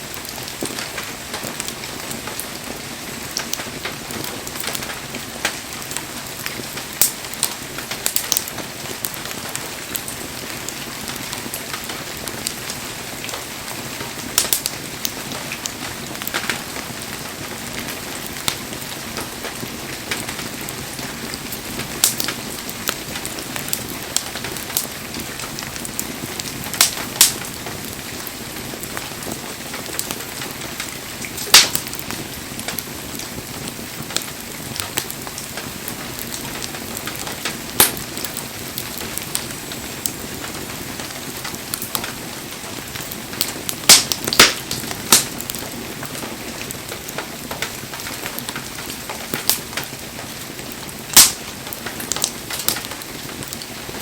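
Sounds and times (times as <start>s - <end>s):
fire hissing: 0.0s - 54.0s
wood fire crackling and popping: 0.0s - 54.0s.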